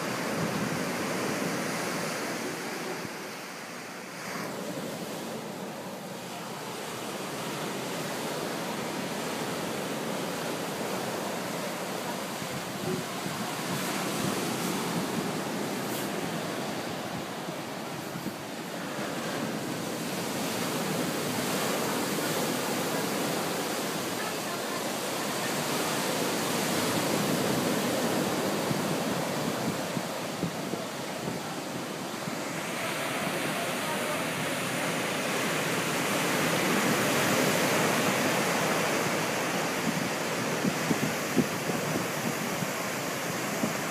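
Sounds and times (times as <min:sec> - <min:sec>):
ocean surf breaking on beach: 0:00.0 - 0:43.9.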